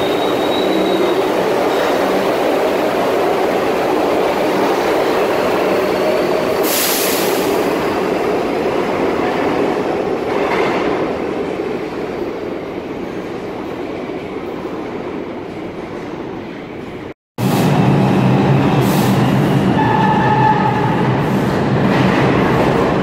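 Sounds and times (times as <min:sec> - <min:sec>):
subway train running on rails: 0:00.0 - 0:23.0.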